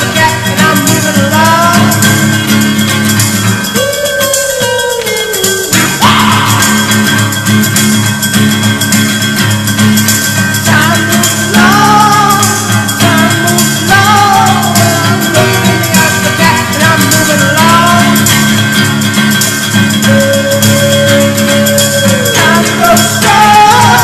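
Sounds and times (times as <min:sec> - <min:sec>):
guitar-led song with bass: 0:00.0 - 0:24.0
wavering melody line: 0:01.5 - 0:18.2, 0:19.1 - 0:24.0.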